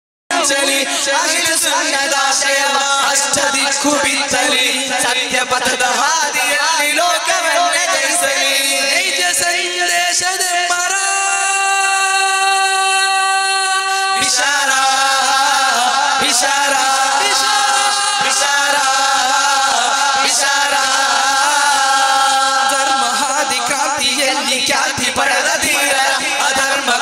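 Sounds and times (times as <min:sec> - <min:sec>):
men singing through microphones: 0:00.3 - 0:27.0.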